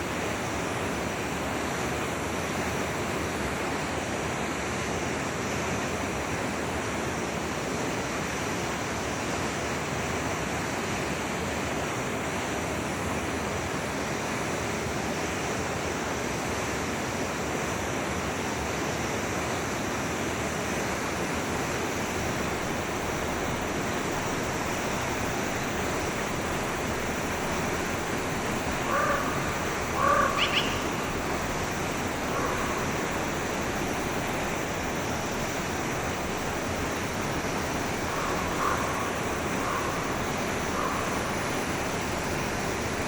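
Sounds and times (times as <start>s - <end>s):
stream flowing: 0.0s - 43.0s.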